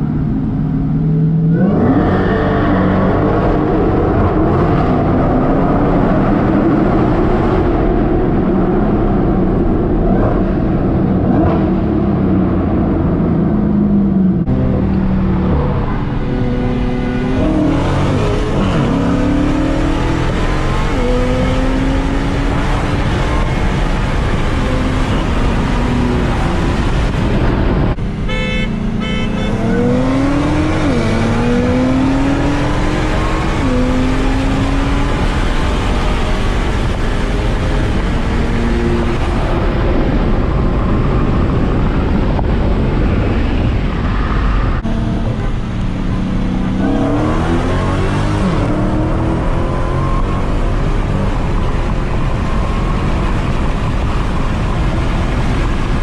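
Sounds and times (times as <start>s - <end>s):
car engine revving and accelerating: 0.0s - 28.0s, 28.9s - 56.0s.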